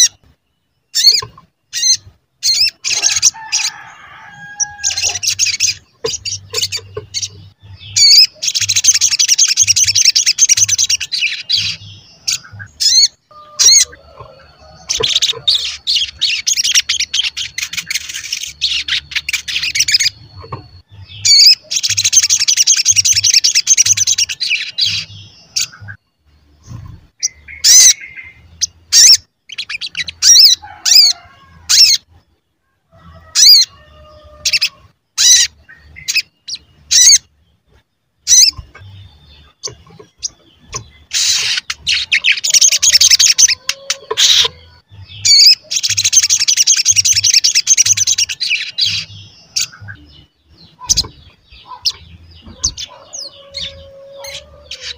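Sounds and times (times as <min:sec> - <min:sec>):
bird twittering song: 0:00.0 - 0:54.9.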